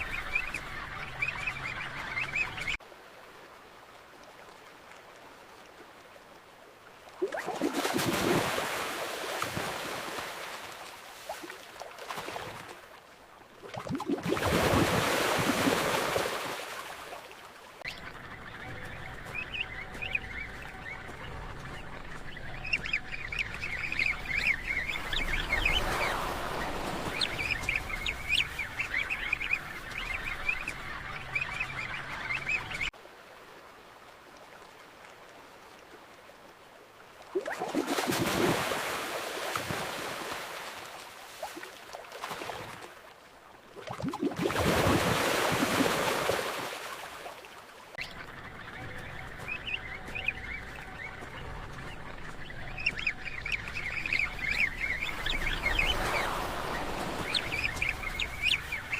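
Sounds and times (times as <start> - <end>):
surf or splashing water: 1.1 - 58.9.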